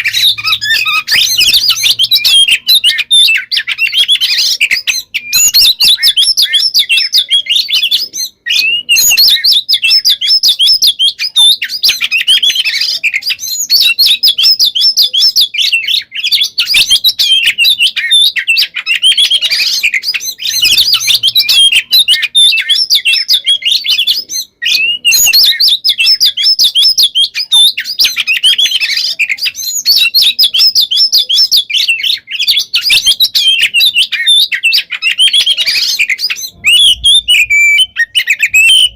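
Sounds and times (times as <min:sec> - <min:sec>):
songbird singing whistles and trills: 0:00.0 - 0:38.9.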